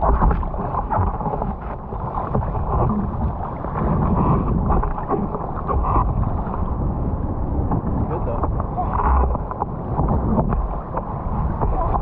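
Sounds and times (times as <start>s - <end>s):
sea water sloshing: 0.0s - 12.0s
wind buffeting microphone: 0.0s - 12.0s.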